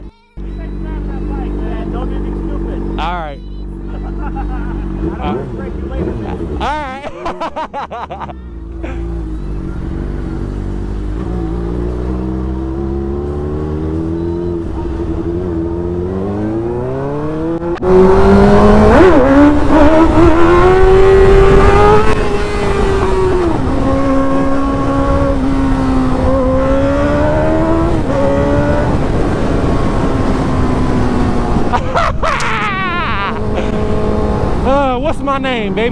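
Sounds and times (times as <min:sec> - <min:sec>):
motorcycle engine accelerating: 0:00.4 - 0:07.5, 0:08.2 - 0:35.9.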